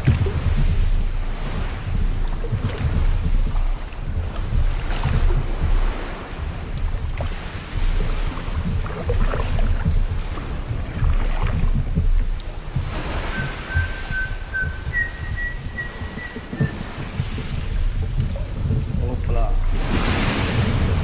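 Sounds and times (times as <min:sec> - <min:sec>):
sea water splashing against rocks: 0:00.0 - 0:21.0
wind buffeting microphone: 0:00.0 - 0:21.0.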